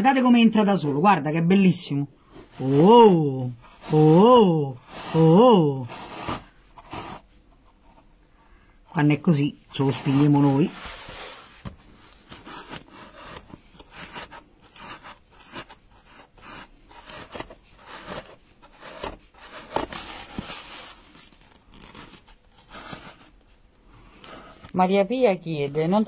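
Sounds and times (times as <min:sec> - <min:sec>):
felt and tool rubbing on foam: 0:02.2 - 0:08.4, 0:09.3 - 0:26.0.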